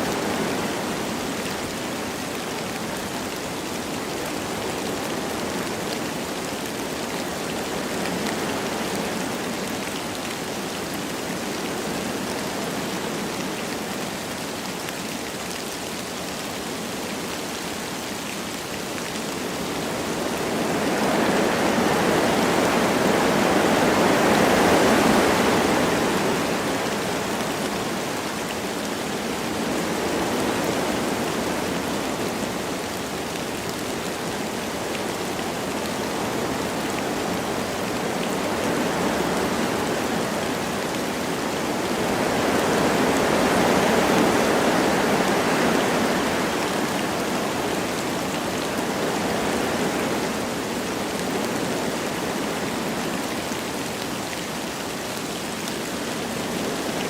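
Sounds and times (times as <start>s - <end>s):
light rain falling: 0.0s - 57.0s
wind through forest trees: 0.0s - 57.0s.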